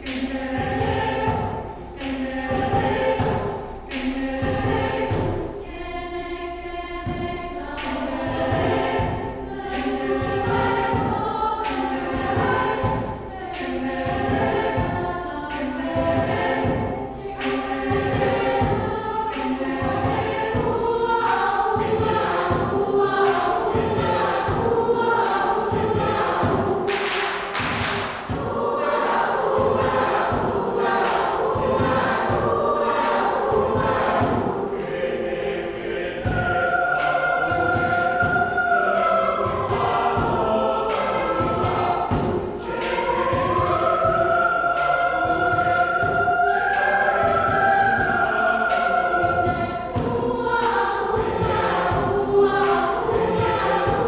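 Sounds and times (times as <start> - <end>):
frame drums beating: 0.0 - 5.6, 7.0 - 54.0
mixed choir singing: 0.0 - 54.0.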